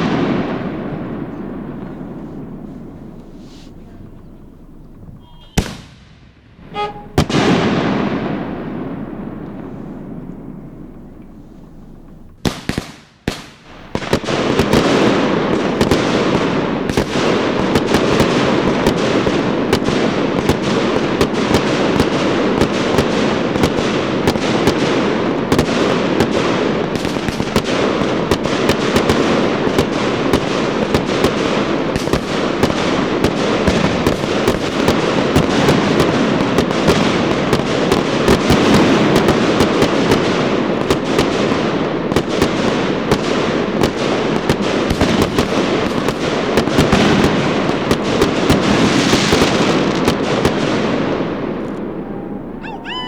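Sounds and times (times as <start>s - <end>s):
fireworks popping and crackling: 0.0s - 52.0s
firework bang: 0.0s - 53.0s.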